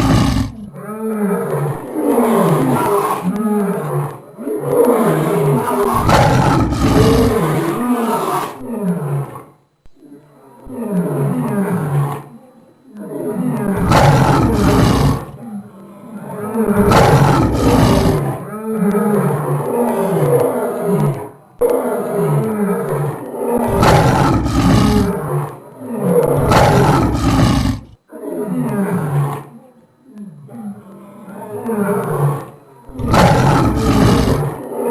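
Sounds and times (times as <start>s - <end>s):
lion-like beast roaring: 0.0s - 9.5s, 13.1s - 15.4s, 16.3s - 29.5s, 30.5s - 34.9s.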